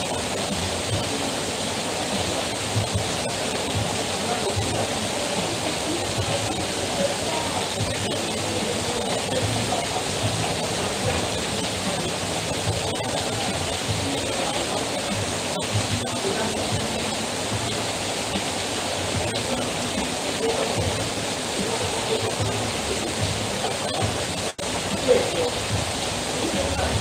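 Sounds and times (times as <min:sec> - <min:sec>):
heavy rain falling: 0:00.0 - 0:27.0
water streaming off roof edge: 0:00.0 - 0:27.0.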